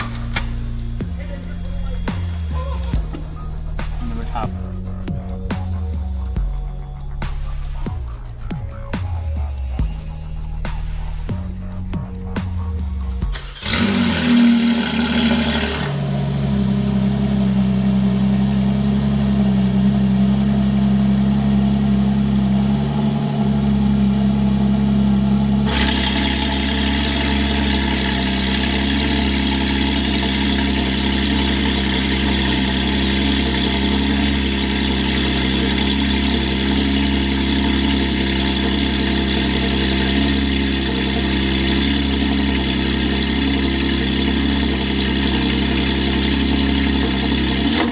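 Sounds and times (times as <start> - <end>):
car engine starting and idling: 0.0 - 47.9.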